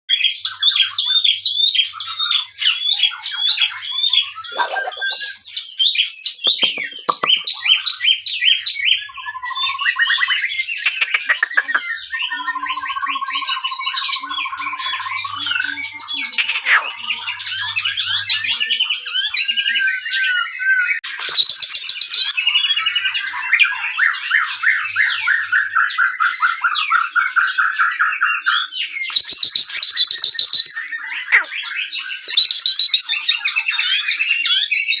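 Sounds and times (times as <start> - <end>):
bird singing whistles and chirps: 0.1 - 35.0.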